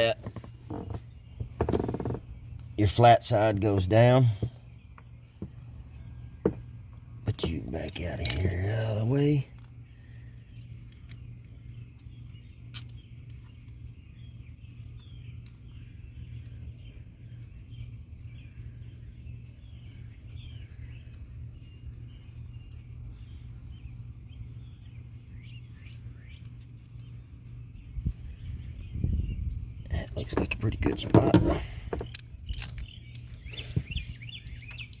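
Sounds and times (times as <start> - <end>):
birds chirping: 0.0 - 35.0
constant low hum: 0.0 - 35.0.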